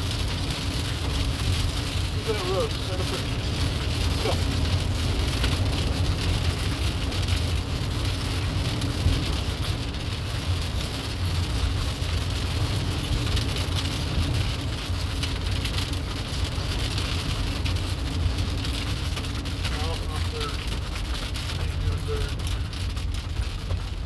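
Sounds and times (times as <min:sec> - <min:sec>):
rain pattering on vehicle: 0:00.0 - 0:24.0
road and engine rumble: 0:00.0 - 0:24.0.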